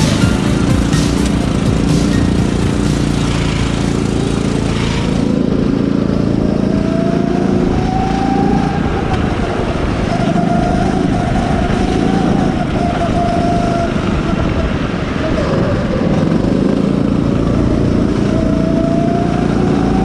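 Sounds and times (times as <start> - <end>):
go-kart engine accelerating: 0.0 - 20.0.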